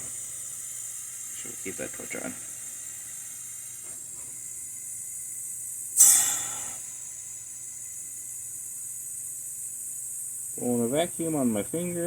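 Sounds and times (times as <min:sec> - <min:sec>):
air hissing through hose: 0:00.0 - 0:12.0
compressor humming: 0:00.0 - 0:12.0.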